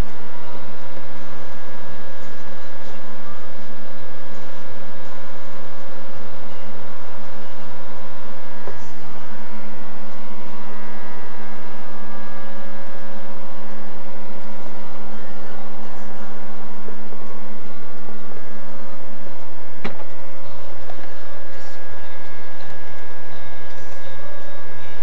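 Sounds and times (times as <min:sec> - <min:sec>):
electrical hum: 0:00.0 - 0:25.0
high steady tones: 0:00.0 - 0:25.0
low buzz: 0:00.0 - 0:25.0.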